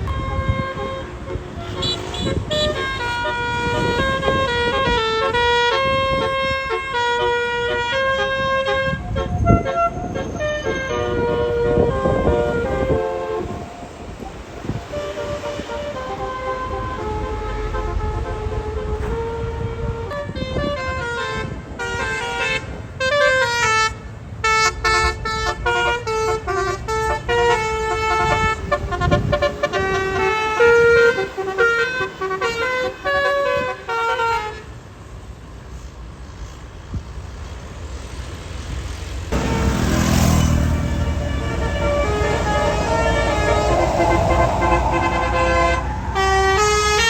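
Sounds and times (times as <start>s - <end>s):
bus horn playing fast melody: 0.0s - 34.8s, 39.4s - 47.0s
bus engine: 0.0s - 47.0s
road noise: 0.0s - 47.0s.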